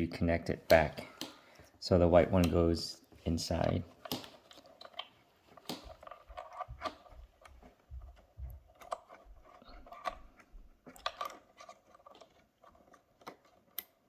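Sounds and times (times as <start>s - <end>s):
plastic tubes clicking and tapping: 0.5s - 2.8s, 3.5s - 14.0s.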